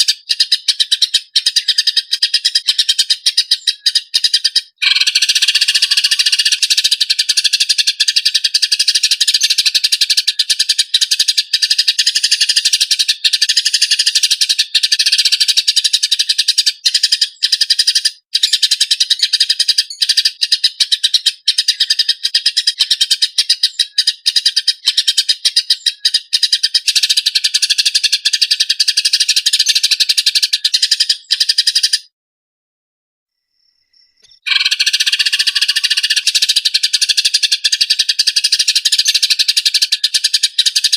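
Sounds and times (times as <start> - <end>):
sparrows chattering: 0.0 - 32.1, 33.6 - 40.9.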